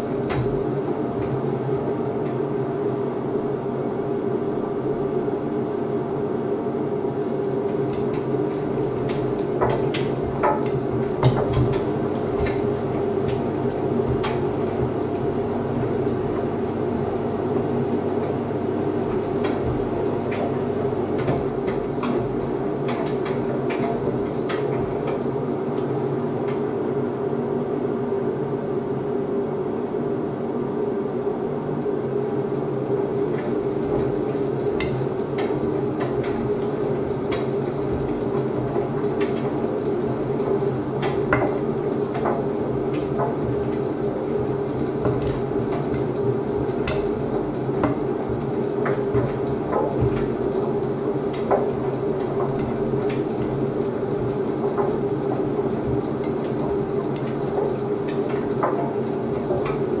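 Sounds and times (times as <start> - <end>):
washer-dryer humming: 0.0 - 60.0.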